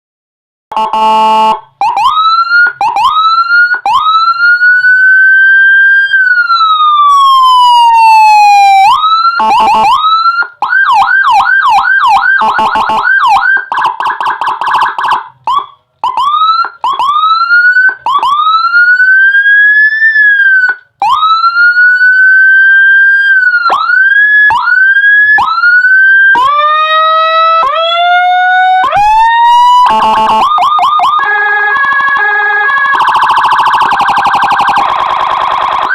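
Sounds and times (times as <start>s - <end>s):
electronic police siren: 0.7s - 35.9s.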